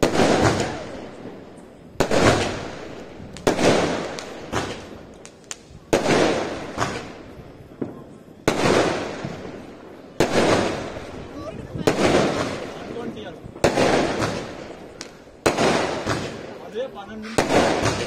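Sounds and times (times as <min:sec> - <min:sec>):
firework bangs: 0:00.0 - 0:18.0
firework pops and crackles: 0:00.0 - 0:18.0.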